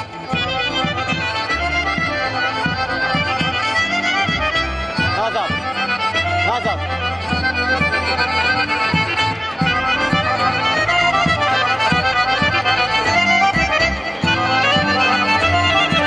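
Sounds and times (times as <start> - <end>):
folk dance music: 0.0 - 16.0.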